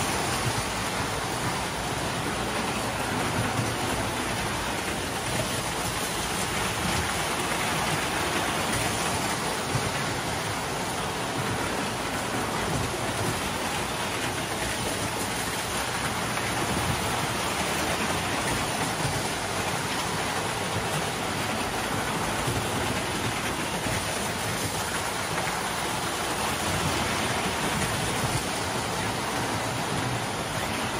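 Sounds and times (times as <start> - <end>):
toy train wheels rumbling on rails: 0.0 - 30.9.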